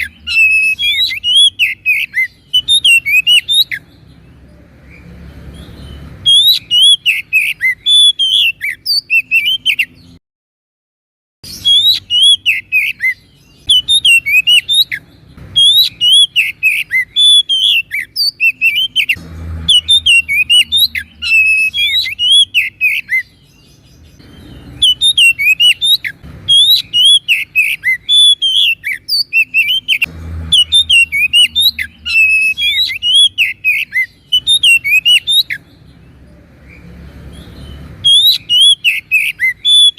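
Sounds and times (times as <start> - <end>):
bird singing: 0.0 - 10.2, 11.4 - 39.9.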